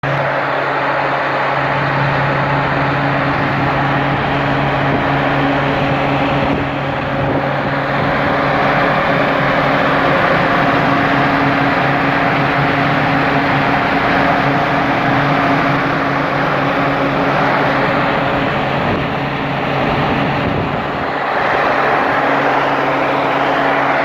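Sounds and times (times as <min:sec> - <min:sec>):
air compressor humming: 0:00.0 - 0:24.0.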